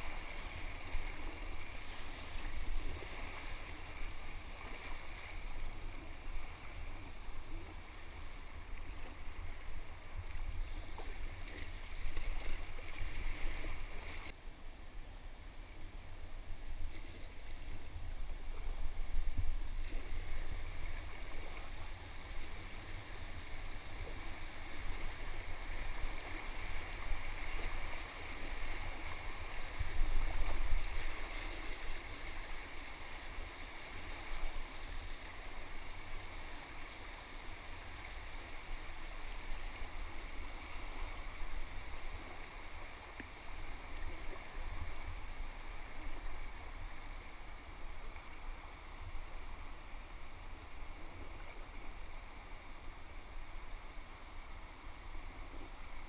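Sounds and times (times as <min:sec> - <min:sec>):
river water rushing and splashing: 0:00.0 - 0:14.4, 0:16.7 - 0:56.0.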